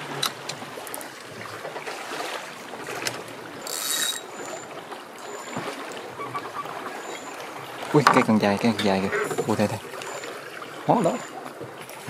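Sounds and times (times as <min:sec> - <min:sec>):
river water lapping against boat hull: 0:00.0 - 0:12.0.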